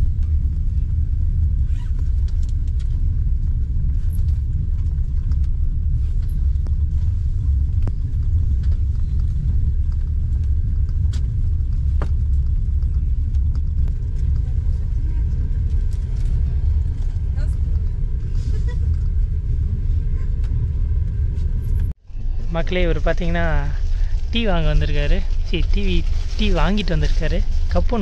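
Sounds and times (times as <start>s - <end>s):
train carriage rumble: 0.0s - 28.0s.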